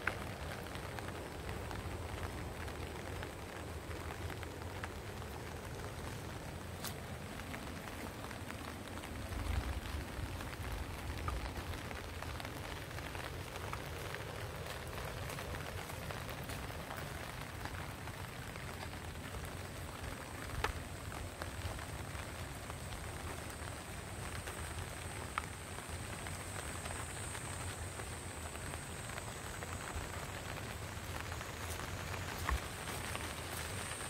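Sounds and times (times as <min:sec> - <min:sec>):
rain pattering: 0:00.0 - 0:34.0
sharp rain taps: 0:00.0 - 0:34.0.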